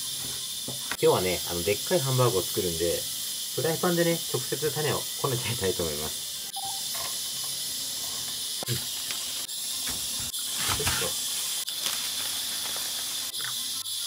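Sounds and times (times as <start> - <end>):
pressure cooker hissing steam: 0.0 - 14.0.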